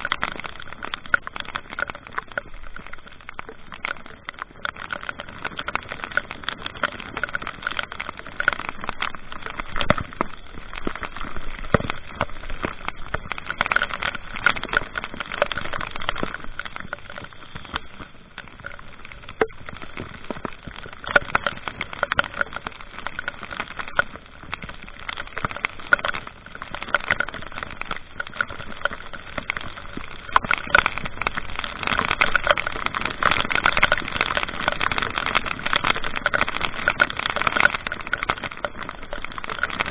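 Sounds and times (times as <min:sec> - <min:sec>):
road and engine noise: 0:00.0 - 0:35.6.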